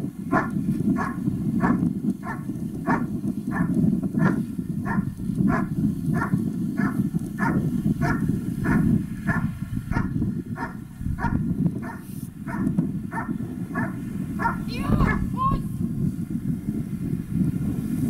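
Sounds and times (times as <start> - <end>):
steady low rumble: 0.0 - 18.0
dog barking: 0.3 - 15.4.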